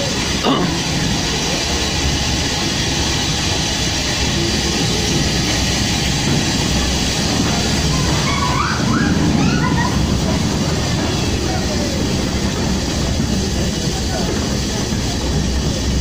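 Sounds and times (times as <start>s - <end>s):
steam train rumbling and rattling: 0.0s - 16.0s.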